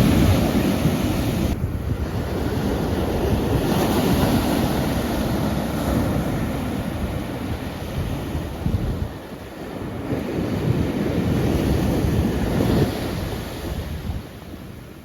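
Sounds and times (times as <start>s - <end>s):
ocean waves breaking: 0.0s - 13.7s.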